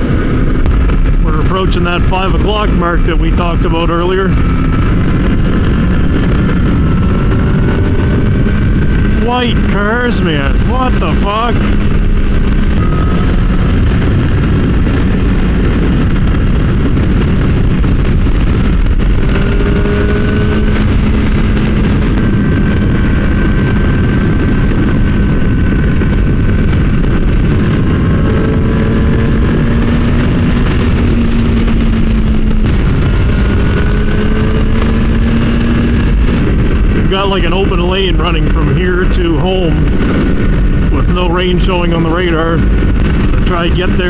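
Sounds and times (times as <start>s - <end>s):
motorcycle engine cruising: 0.0s - 44.0s
wind and road noise: 0.0s - 44.0s.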